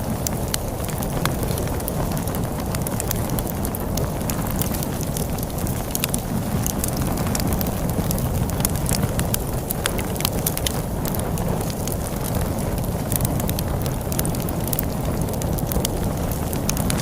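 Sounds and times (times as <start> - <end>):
storm wind rushing: 0.0 - 17.0
wood fire crackling and popping: 0.0 - 17.0.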